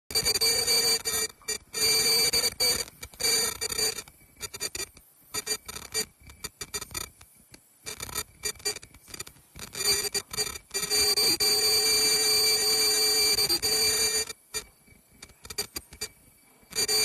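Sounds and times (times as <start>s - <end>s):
high-pitched machine whine: 0.1s - 7.2s, 7.8s - 17.0s.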